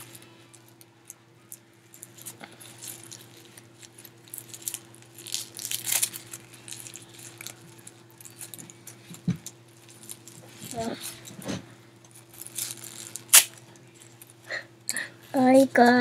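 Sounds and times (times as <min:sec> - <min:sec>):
plastic wrapping crinkling: 0:00.0 - 0:14.6
steady low hum: 0:00.0 - 0:16.0.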